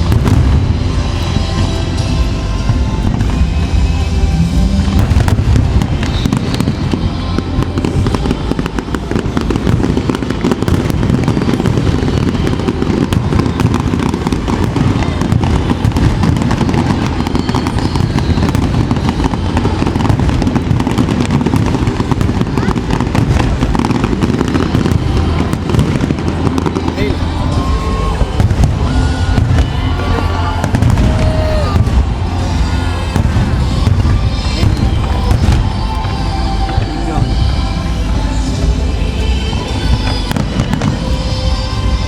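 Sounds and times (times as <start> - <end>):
fireworks crackling and popping: 0.0 - 42.0
show music playing: 0.0 - 42.0.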